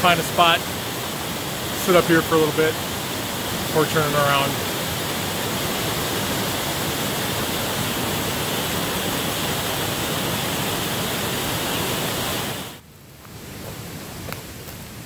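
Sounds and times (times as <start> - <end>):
waterfall rushing into pool: 0.0 - 12.8.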